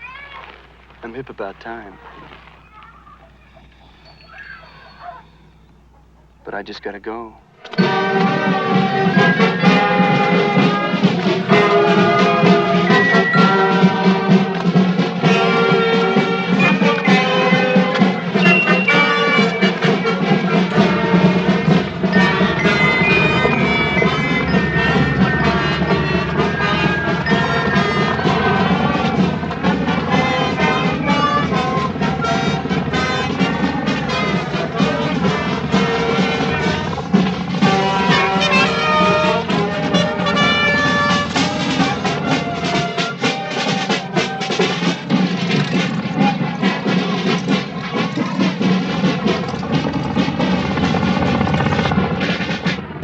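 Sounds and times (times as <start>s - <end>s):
brass band playing: 7.4s - 52.9s.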